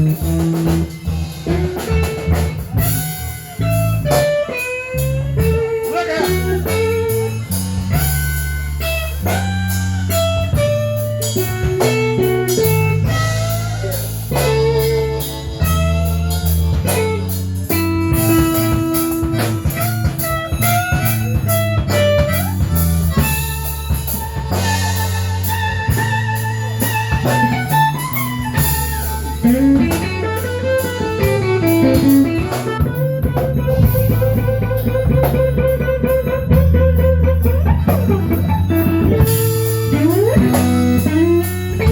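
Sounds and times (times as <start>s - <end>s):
bass line: 0.0s - 41.9s
drum kit: 0.0s - 41.9s
lead electric guitar: 0.0s - 41.9s.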